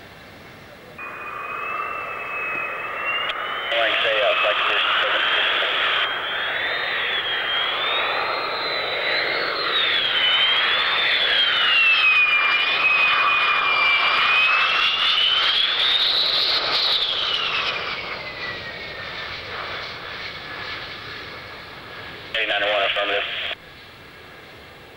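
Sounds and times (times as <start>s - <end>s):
jet engine whine and roar: 0.0s - 24.9s.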